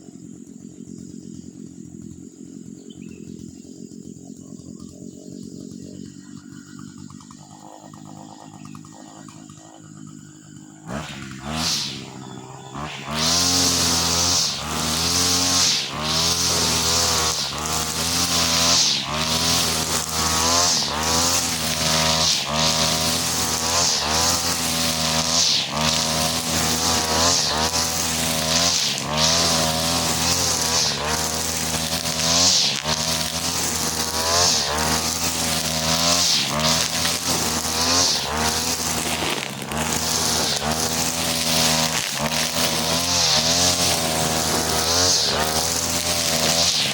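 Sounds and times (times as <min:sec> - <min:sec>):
brush cutter engine running hard: 0:00.0 - 0:46.9
trimmer line whipping through grass: 0:02.8 - 0:46.9.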